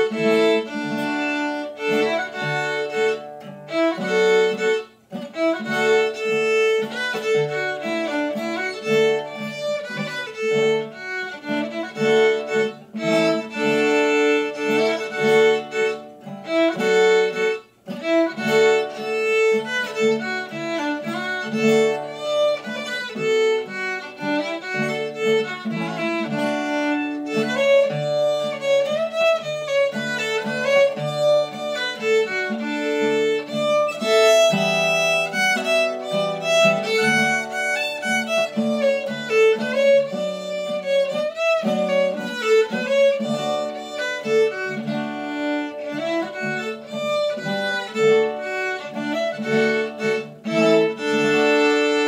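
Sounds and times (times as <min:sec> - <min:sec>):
fiddle playing slow waltz: 0:00.0 - 0:52.0.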